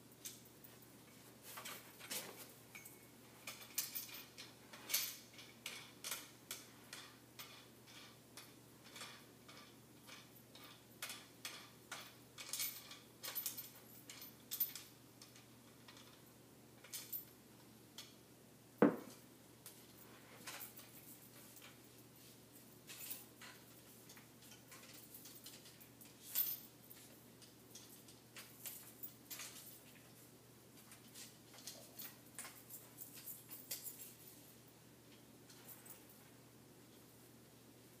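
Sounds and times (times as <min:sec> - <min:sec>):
clicks and rattles of stand poles: 0:00.2 - 0:17.3, 0:18.8 - 0:34.4.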